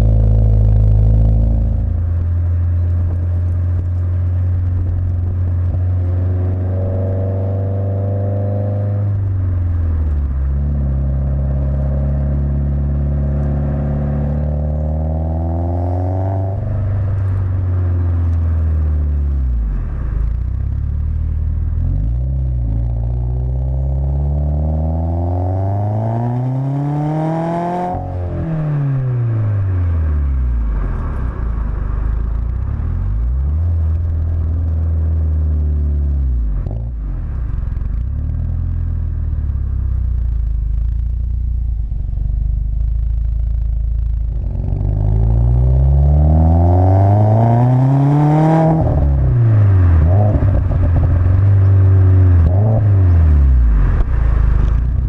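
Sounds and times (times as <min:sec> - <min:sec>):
car exhaust revving: 0:00.0 - 0:55.0.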